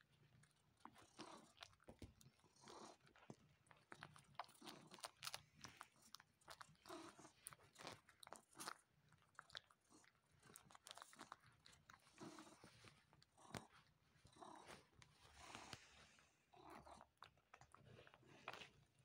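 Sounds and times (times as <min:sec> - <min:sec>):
cat wet sucking clicks: 0:00.8 - 0:19.0.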